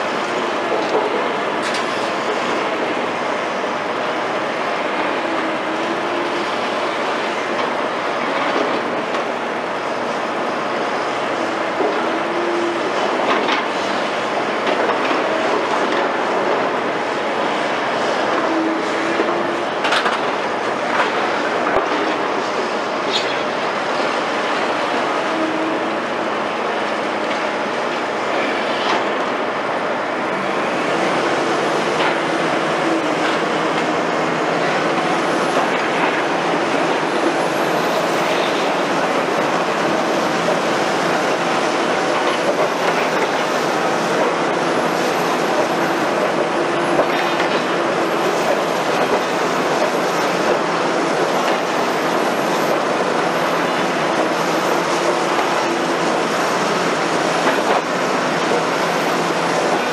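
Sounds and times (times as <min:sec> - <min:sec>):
excavator engine and hydraulics hum: 0:00.0 - 0:59.9.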